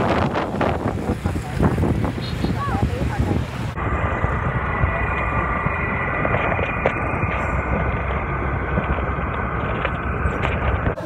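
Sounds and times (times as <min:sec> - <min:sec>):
motorbike road noise: 0:00.0 - 0:11.0
wind rumble on microphone: 0:00.0 - 0:11.0.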